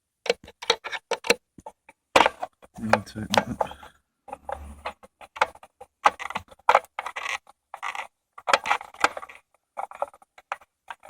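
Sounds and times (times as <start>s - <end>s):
screw scraping and clicking: 0.3s - 11.0s.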